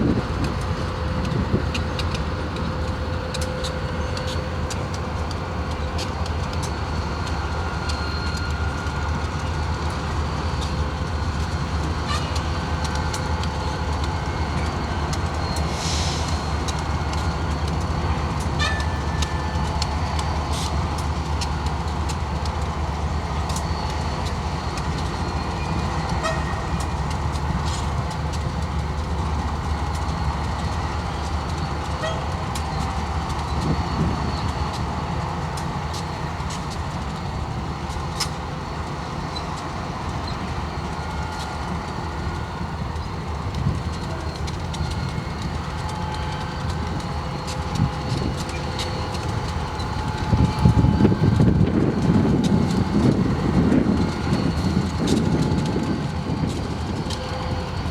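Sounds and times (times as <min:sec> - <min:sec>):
locomotive engine rumble: 0:00.0 - 0:57.9
wheels clicking and knocking: 0:00.0 - 0:57.9.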